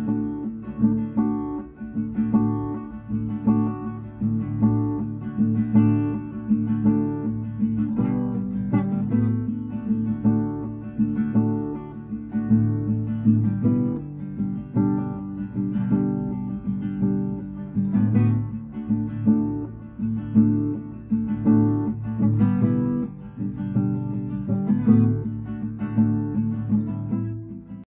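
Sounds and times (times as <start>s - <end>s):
acoustic guitar strumming chords: 0.0s - 27.8s.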